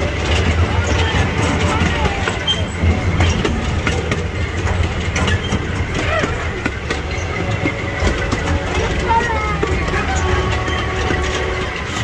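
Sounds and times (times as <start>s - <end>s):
miniature train rumbling: 0.0s - 12.0s
wheels clicking and rattling: 0.0s - 12.0s.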